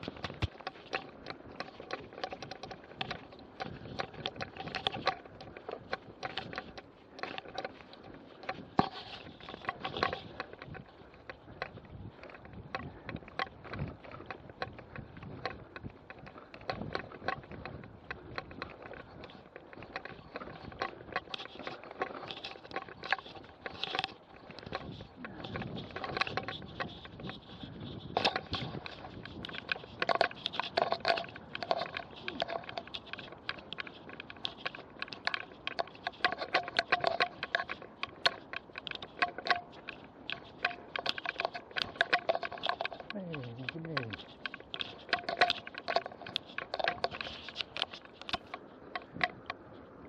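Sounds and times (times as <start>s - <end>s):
mountain bike rattling and clattering: 0.0s - 49.8s.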